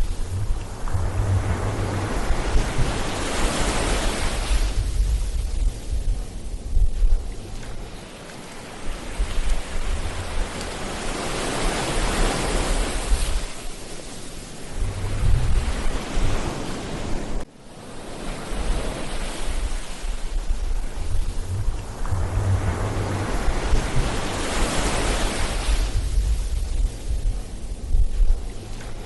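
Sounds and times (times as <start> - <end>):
ocean surf washing onto beach: 0.0 - 29.0
wind rumbling on microphone: 0.0 - 29.0.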